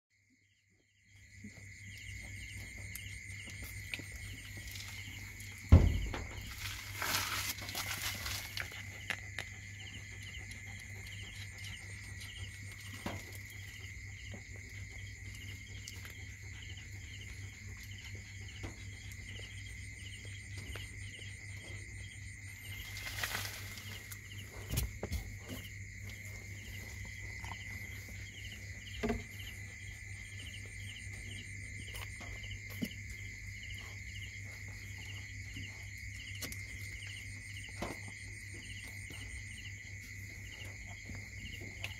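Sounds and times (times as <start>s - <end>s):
crickets chirping: 0.1s - 41.9s
high insect drone: 1.0s - 41.9s.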